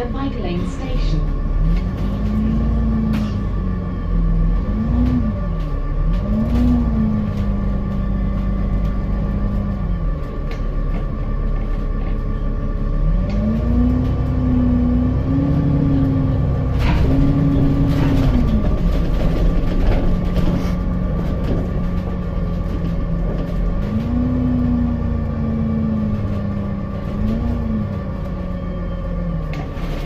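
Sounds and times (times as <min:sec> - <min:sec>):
bus engine rumble: 0:00.0 - 0:30.0
drivetrain whine: 0:00.0 - 0:30.0.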